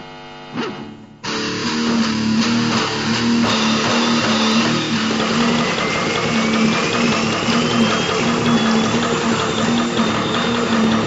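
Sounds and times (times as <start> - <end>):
distorted noise-rock music: 0.0 - 11.0
thin high whine rising: 0.0 - 11.0.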